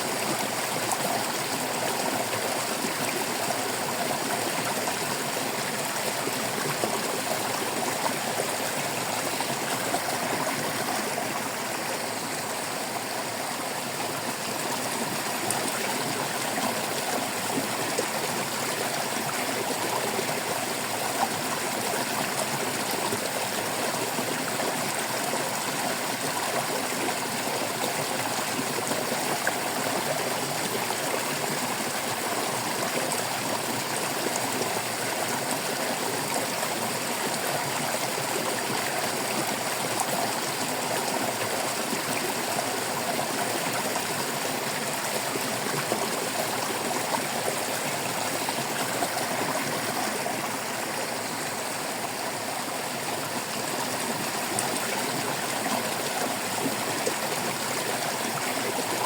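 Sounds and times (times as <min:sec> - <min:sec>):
stream water babbling over rocks: 0:00.0 - 0:59.0.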